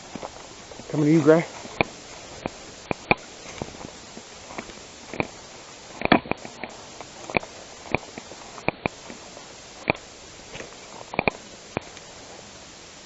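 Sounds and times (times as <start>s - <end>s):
footsteps crunching through undergrowth: 0.0s - 12.5s
steady outdoor hiss: 0.0s - 13.0s.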